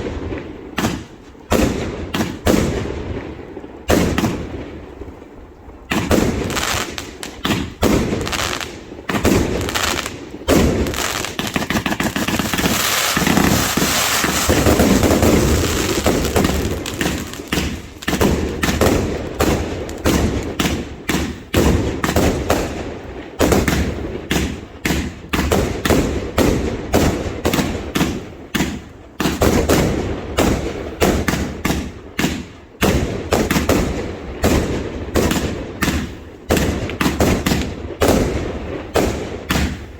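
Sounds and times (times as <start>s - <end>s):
fireworks bangs and thuds: 0.0s - 5.2s, 5.9s - 39.9s.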